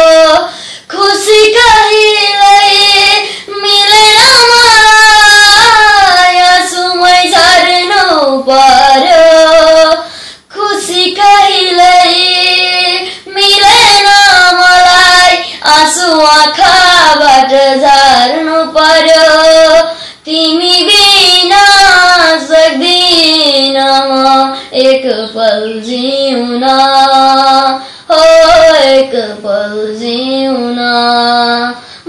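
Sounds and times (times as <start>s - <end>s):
boy singing: 0.0s - 32.0s.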